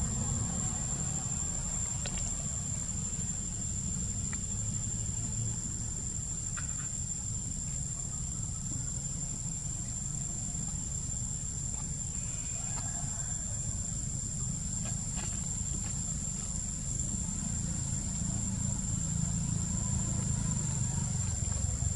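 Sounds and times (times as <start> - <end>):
low steady rumble: 0.0 - 21.9.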